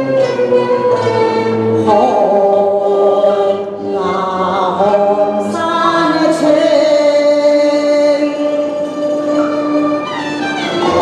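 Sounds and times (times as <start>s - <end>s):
woman singing with vibrato: 0.0s - 10.2s
instrumental accompaniment: 0.0s - 11.0s.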